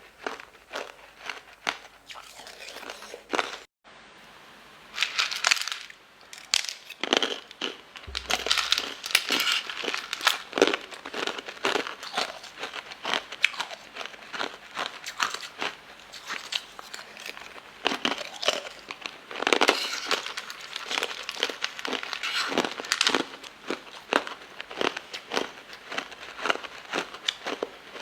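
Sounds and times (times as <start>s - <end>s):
crunchy chewing: 0.0s - 3.7s, 6.3s - 28.0s
crinkling: 5.0s - 28.0s.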